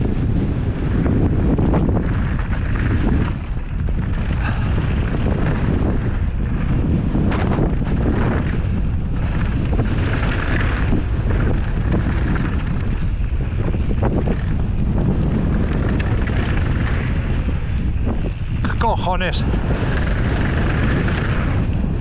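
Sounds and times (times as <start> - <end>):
bike clattering over bumps: 0.0 - 22.0
bike tyres rumbling on dirt: 0.0 - 22.0
wind on microphone: 0.0 - 22.0.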